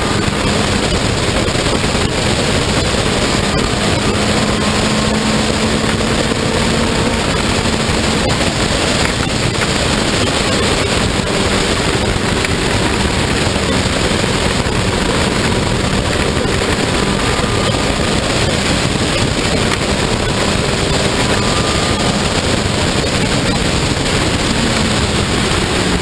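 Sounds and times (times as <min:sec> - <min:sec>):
racing car engine: 0:00.0 - 0:26.0
wind rushing: 0:00.0 - 0:26.0.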